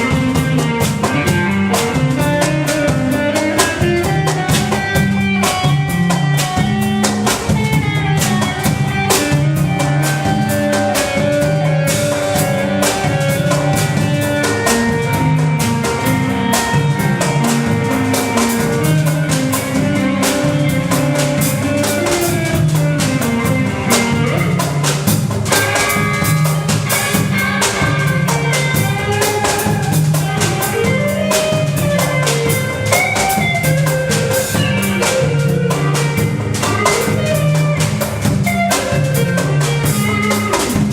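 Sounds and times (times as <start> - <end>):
bass line: 0.0 - 40.9
drum kit: 0.0 - 40.9
guitar playing: 0.0 - 40.9.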